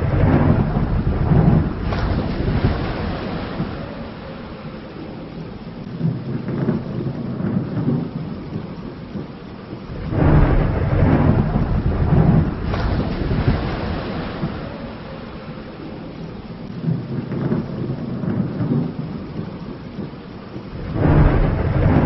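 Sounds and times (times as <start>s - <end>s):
deep rolling thunder: 0.0s - 22.0s
steady rain: 0.0s - 22.0s.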